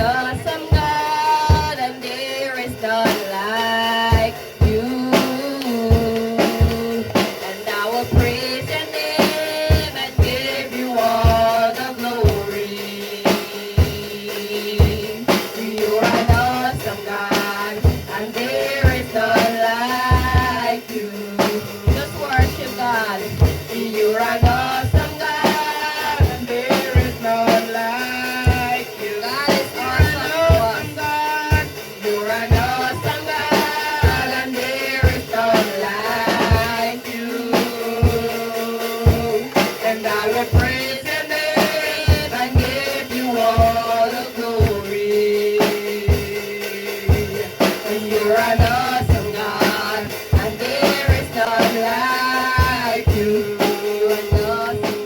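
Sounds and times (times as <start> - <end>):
drum kit beat: 0.0 - 55.0
gospel worship music: 0.0 - 55.0.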